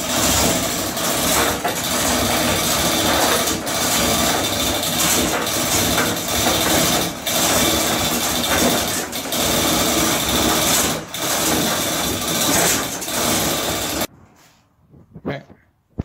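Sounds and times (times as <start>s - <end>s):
chain hoist rattling: 0.0s - 14.1s.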